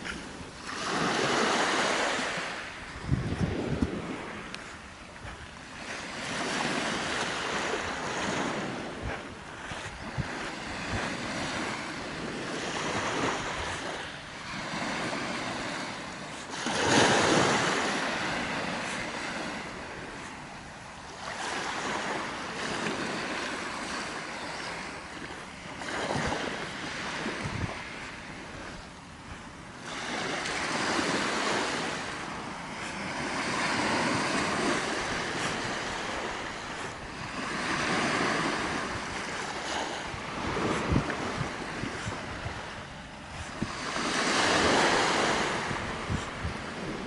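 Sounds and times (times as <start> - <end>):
small sea waves breaking: 0.0 - 47.0.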